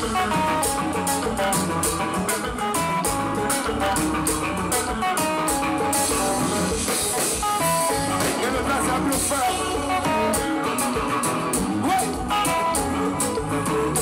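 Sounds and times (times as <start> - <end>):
band playing: 0.0 - 14.0
guitar melody: 0.0 - 14.0.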